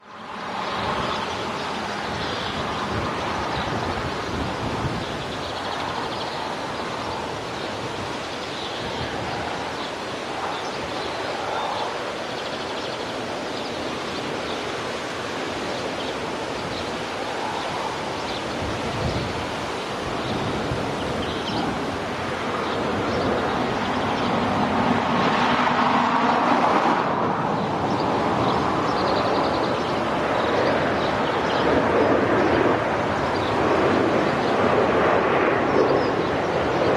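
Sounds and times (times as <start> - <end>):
wind on microphone: 0.0 - 36.9.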